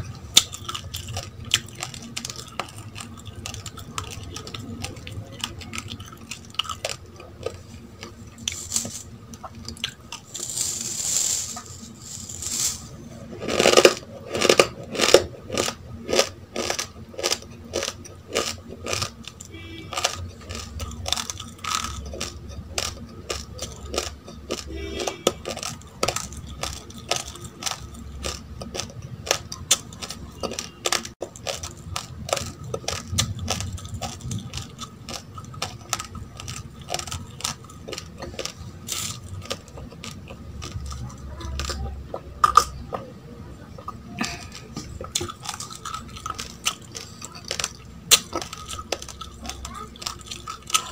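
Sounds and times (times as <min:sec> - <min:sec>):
raw rice crunching between teeth: 0:00.1 - 0:42.7, 0:44.2 - 0:50.9.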